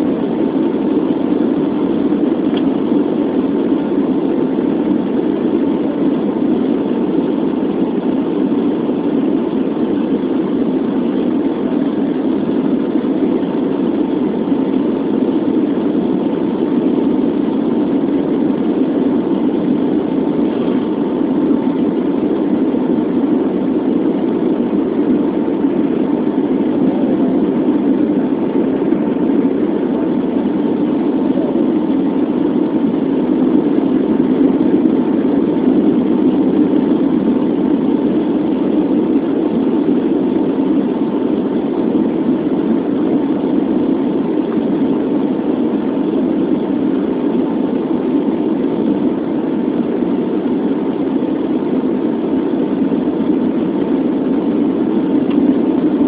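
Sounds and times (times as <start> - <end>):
faint constant whine: 0.0 - 56.0.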